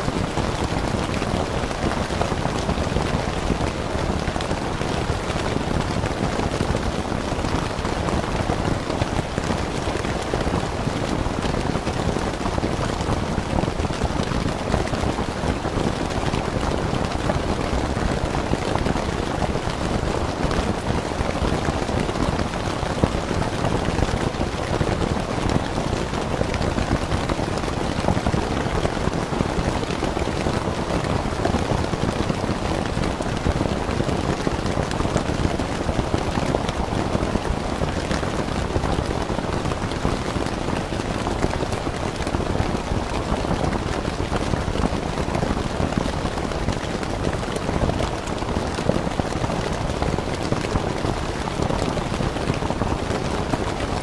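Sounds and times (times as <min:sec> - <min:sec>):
rain falling on a tent: 0:00.0 - 0:54.0.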